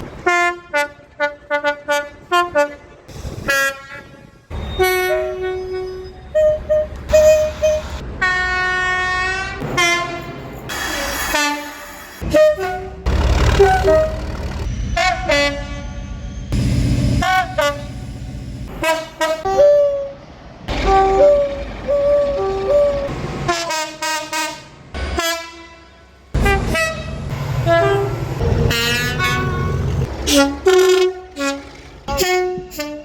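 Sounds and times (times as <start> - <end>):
moving train rumble: 0.0 - 33.0
train horns sounding: 0.2 - 33.0.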